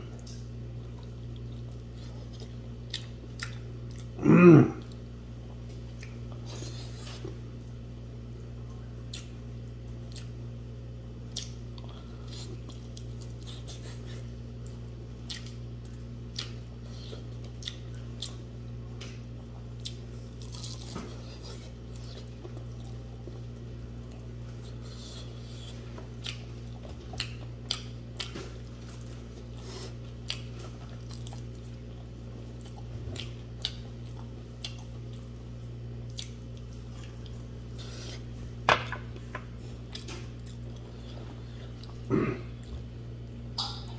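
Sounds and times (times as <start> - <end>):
steady low hum: 0.0 - 43.9
person chewing: 0.2 - 5.1, 8.6 - 10.4, 11.2 - 18.5, 19.5 - 42.9.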